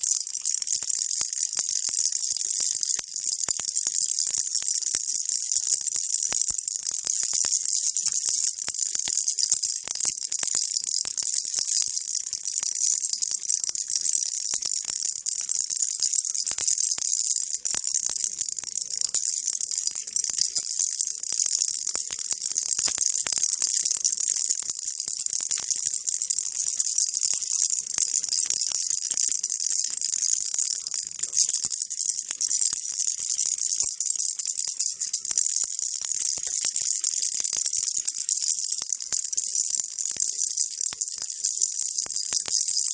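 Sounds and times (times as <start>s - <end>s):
baby rattle shaking: 0.0s - 42.9s.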